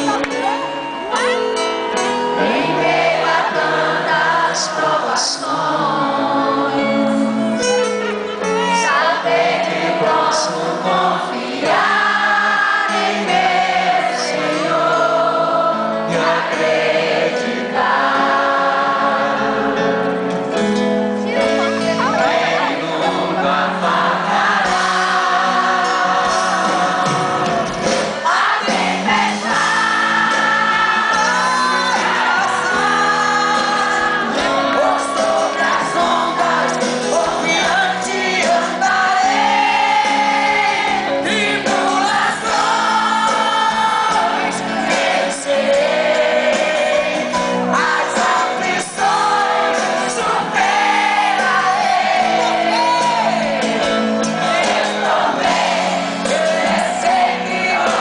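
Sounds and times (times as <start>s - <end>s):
gospel singing with instruments: 0.0s - 58.0s.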